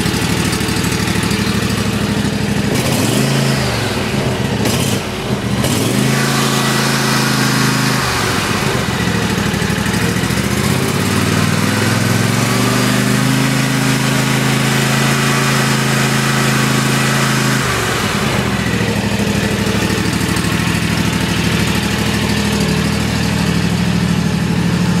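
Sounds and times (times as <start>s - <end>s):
riding mower engine running: 0.0s - 25.0s.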